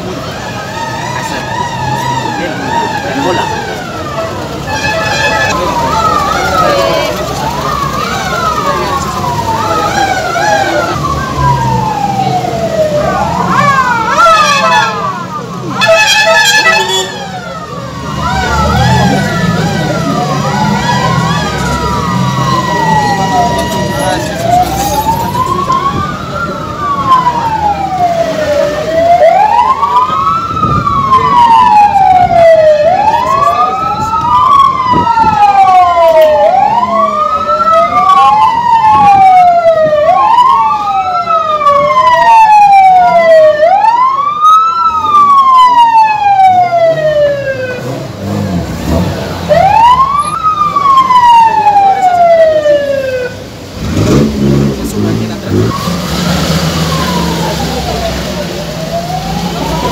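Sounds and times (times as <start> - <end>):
emergency siren wailing: 0.0 - 59.9.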